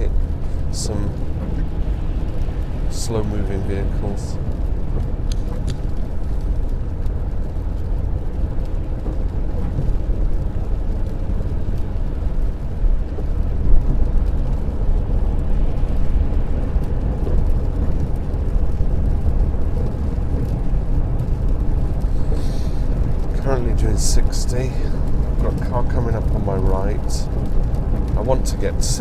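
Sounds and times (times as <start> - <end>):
tyre and engine rumble: 0.0 - 29.0.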